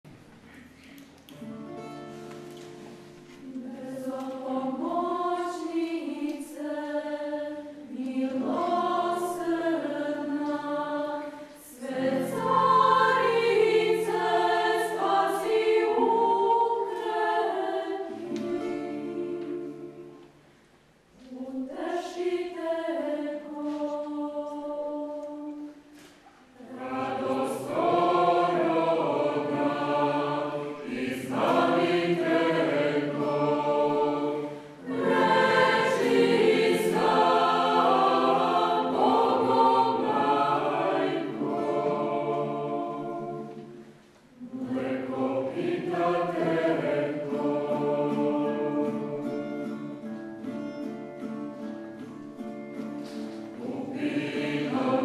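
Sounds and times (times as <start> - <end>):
mixed choir singing a hymn: 2.8 - 20.4, 21.2 - 50.1, 53.2 - 55.0.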